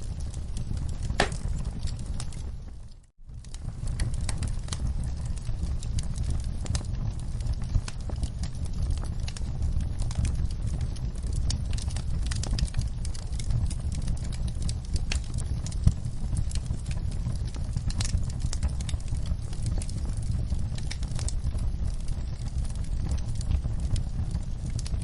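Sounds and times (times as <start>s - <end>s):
low rumble of fire: 0.0s - 25.0s
wood fire crackling: 0.0s - 25.0s.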